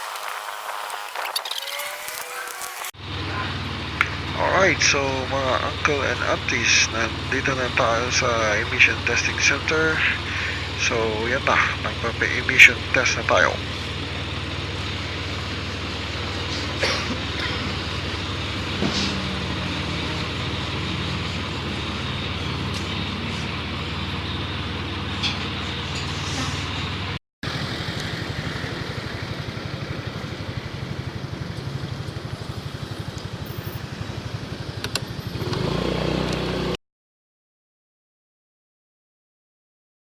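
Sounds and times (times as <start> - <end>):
scooter engine idling: 3.0 - 36.7.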